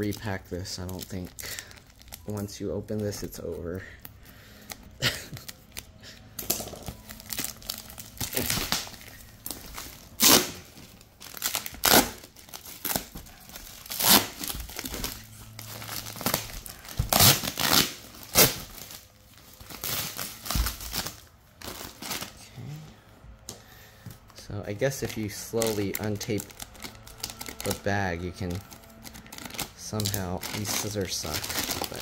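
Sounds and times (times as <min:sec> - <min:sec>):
plastic wrapping crackling: 0:00.0 - 0:22.4, 0:24.2 - 0:32.0
plastic wrapping ripping: 0:00.0 - 0:22.4, 0:24.3 - 0:32.0.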